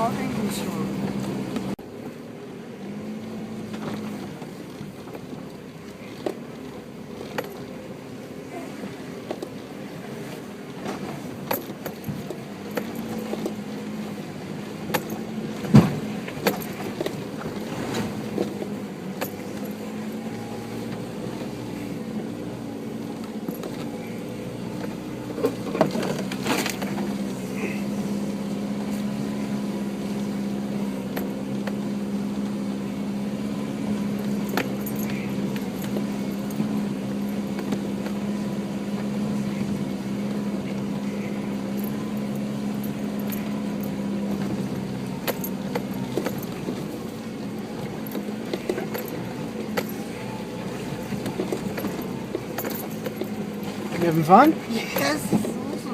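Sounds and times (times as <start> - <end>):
engine running at low revs: 0.0 - 55.9.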